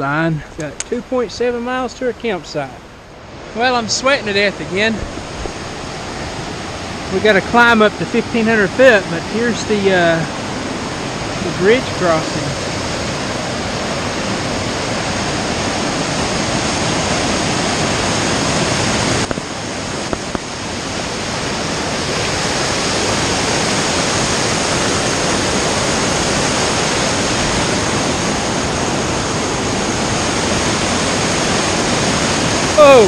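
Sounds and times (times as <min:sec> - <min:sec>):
rapids rushing over boulders: 0:00.0 - 0:33.0.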